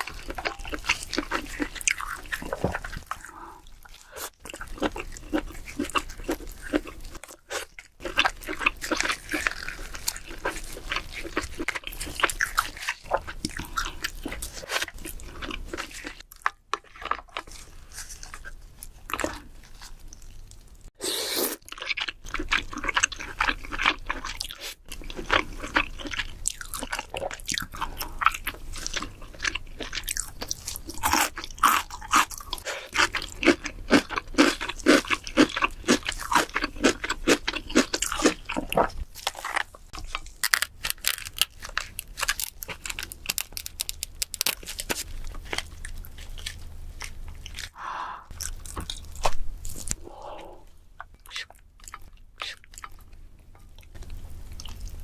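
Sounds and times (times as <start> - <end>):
person chewing crab: 0.0 - 55.0.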